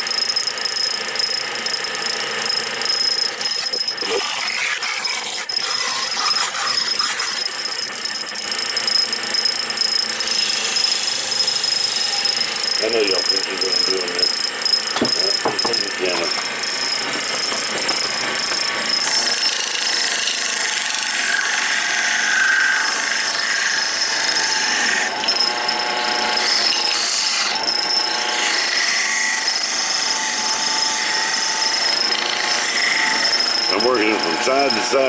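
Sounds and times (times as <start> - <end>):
wood lathe cutting: 0.0 - 35.0.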